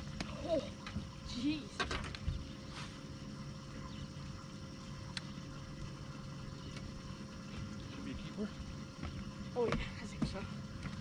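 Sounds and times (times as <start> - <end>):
electric trolling motor hum: 0.0 - 11.0
thin constant whine: 0.0 - 11.0.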